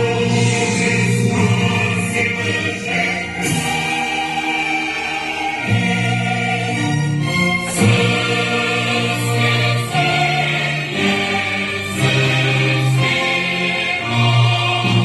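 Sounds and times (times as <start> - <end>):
choir singing long low notes: 0.0 - 15.0.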